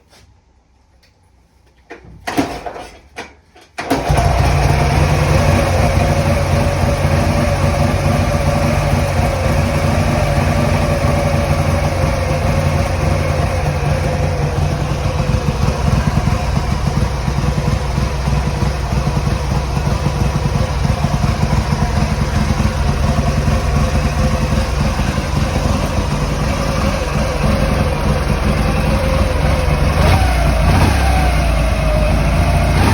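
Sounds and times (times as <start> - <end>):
motorcycle engine cranking: 3.7 - 32.9
motorcycle engine idling: 4.0 - 32.9.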